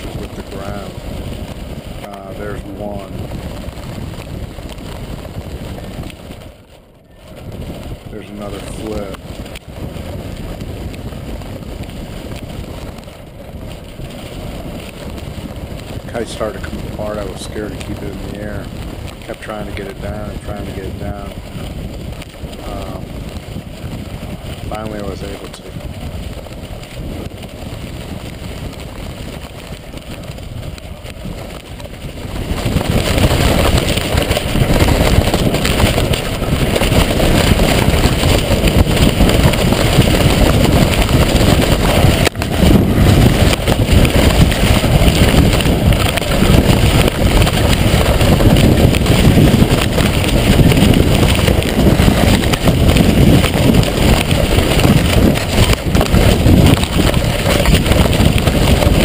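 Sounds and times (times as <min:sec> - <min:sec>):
gusty wind on microphone: 0:00.0 - 0:59.0.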